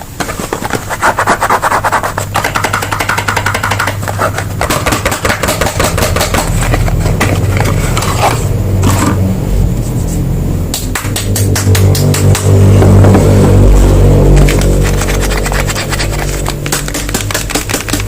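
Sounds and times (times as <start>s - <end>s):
low hum: 1.6s - 18.0s.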